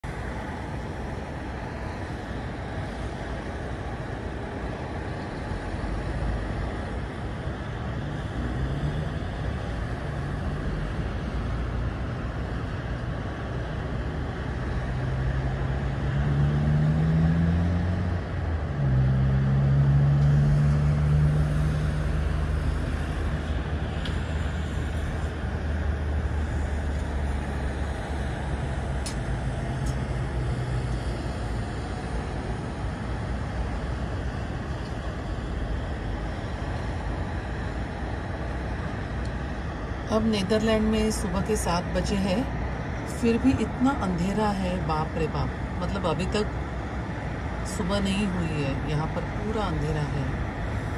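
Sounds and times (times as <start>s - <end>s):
engine hum rising in pitch: 0.0s - 50.9s
motorway traffic noise: 0.0s - 50.9s.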